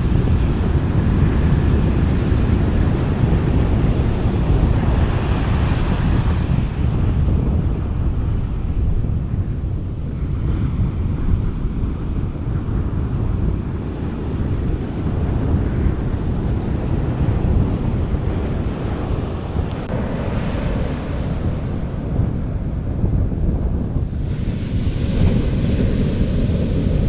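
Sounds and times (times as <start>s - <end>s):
sea waves washing onto beach: 0.0s - 8.7s, 9.8s - 27.0s
wind rumble on microphone: 0.0s - 27.0s.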